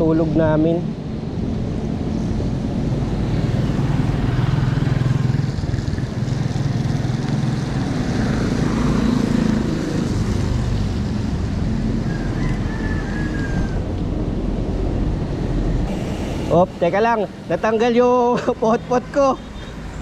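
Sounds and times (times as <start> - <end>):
road noise rushing: 0.0 - 20.0
vehicle engine humming: 0.7 - 20.0.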